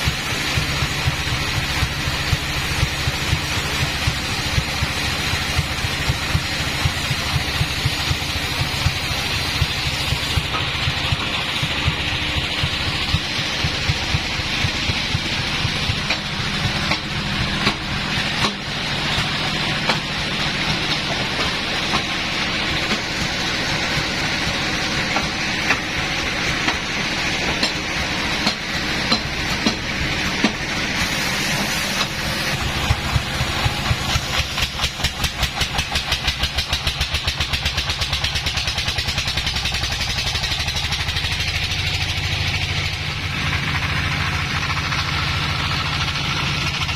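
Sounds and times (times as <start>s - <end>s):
saw hissing through wood: 0.0s - 46.9s
sawmill engine rumble: 0.0s - 46.9s.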